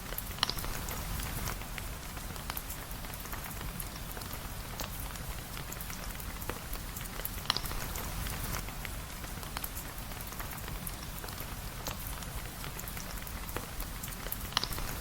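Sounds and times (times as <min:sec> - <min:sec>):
raindrops ticking on surface: 0:00.0 - 0:15.0
steady rain falling: 0:00.0 - 0:15.0.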